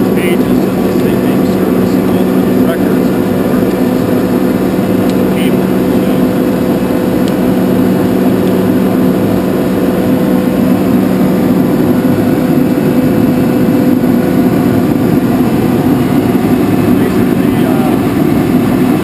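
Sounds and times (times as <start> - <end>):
air compressor droning: 0.0 - 19.0.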